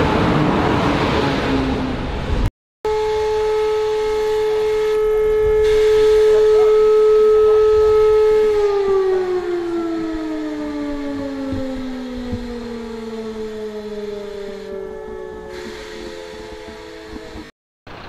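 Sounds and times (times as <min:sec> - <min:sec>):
electric train motor whine: 0:02.9 - 0:17.5.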